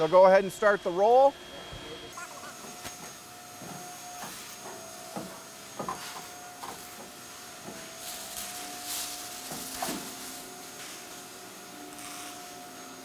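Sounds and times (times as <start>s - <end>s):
plate roller machine whine: 0.0s - 13.0s.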